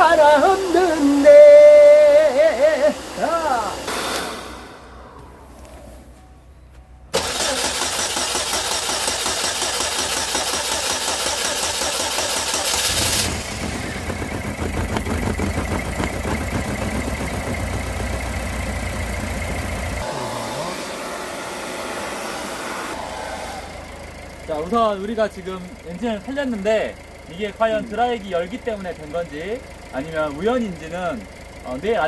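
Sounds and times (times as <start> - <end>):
car engine starting and running: 0.0 - 32.0.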